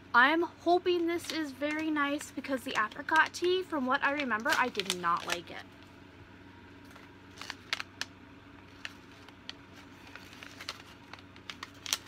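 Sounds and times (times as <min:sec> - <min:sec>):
faint steady hum: 0:00.0 - 0:12.0
plastic pouch crinkling and clicking: 0:00.9 - 0:05.9, 0:06.8 - 0:12.0.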